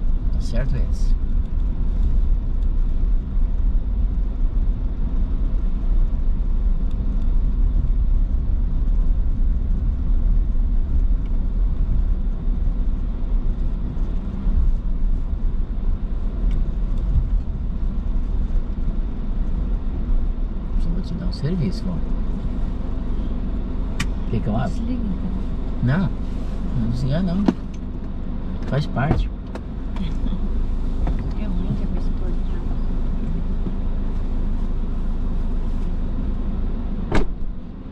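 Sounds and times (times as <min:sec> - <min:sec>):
car engine and tyres rumbling: 0:00.0 - 0:37.9.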